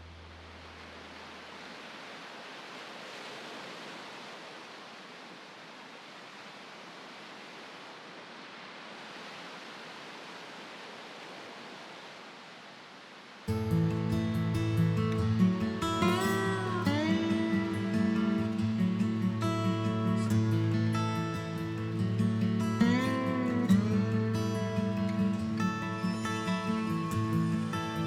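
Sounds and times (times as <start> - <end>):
ocean surf rushing: 0.3 - 28.0.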